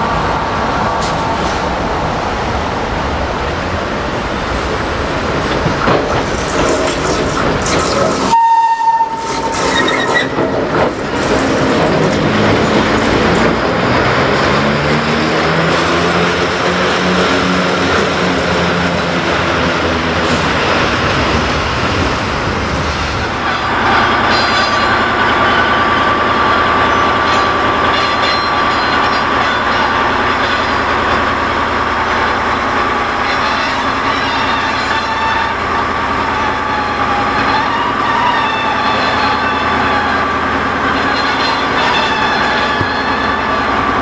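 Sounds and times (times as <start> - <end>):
railway vehicle running on track: 0.0 - 44.0.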